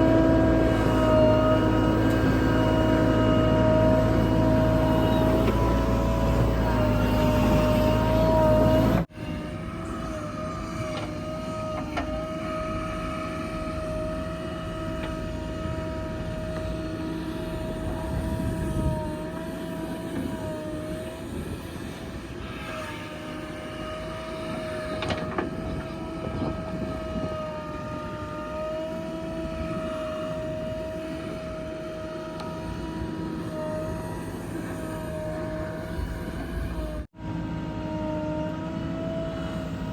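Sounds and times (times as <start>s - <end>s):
diesel engine whining: 0.0s - 39.9s.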